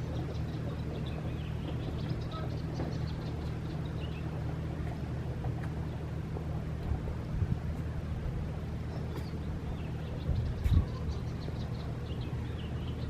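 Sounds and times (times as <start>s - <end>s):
small birds chirping: 0.0s - 6.2s, 8.6s - 13.0s
steady low rumble: 0.0s - 13.0s.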